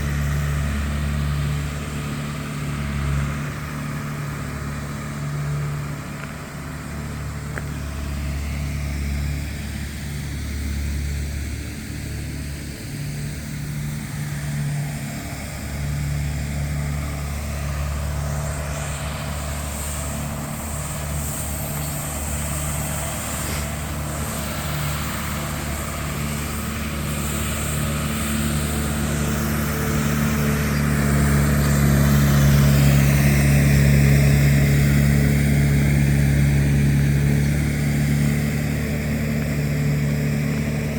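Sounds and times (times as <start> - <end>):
vehicle engines humming: 0.0 - 40.9.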